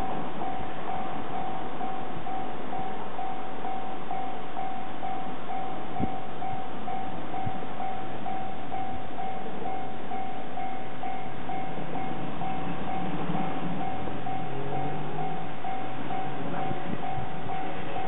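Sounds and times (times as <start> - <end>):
approaching train rumble: 0.0 - 18.0
level crossing bell dinging: 0.0 - 18.0.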